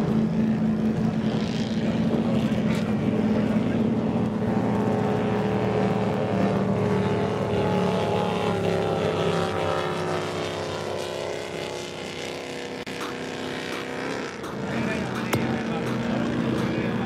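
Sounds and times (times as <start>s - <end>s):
racing boat engine drone: 0.0s - 17.0s.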